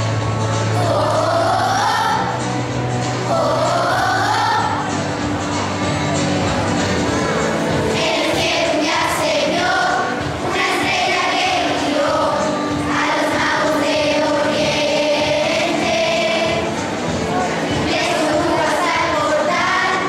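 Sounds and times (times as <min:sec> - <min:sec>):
children's choir singing: 0:00.0 - 0:20.0
instrumental accompaniment: 0:00.0 - 0:20.0.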